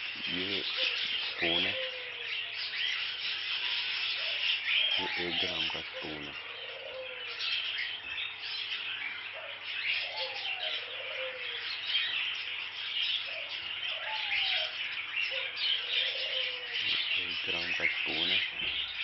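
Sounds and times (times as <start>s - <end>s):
budgerigars chattering and chirping: 0.0s - 19.0s.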